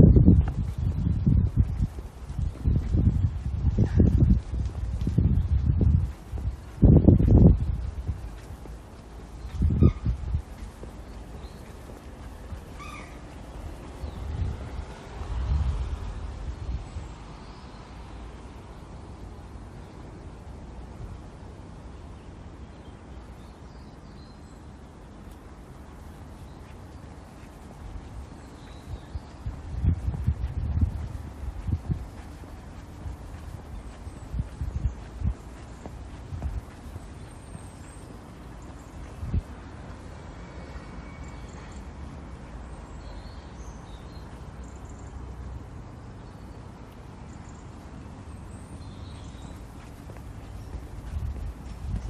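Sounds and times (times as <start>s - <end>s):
low city rumble: 0.0s - 52.0s.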